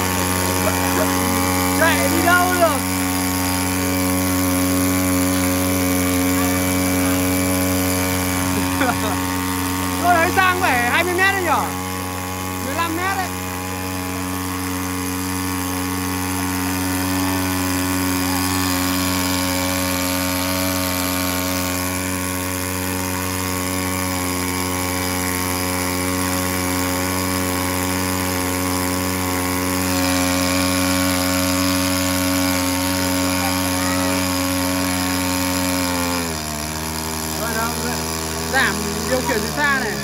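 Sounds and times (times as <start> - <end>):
small engine running: 0.0 - 40.0
water jet through hose: 0.0 - 40.0.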